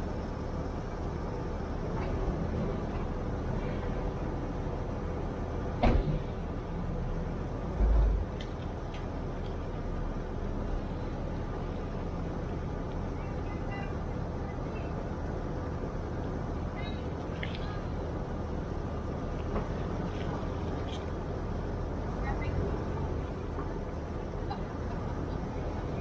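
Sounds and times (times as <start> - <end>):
engine rumbling at low speed: 0.0 - 26.0.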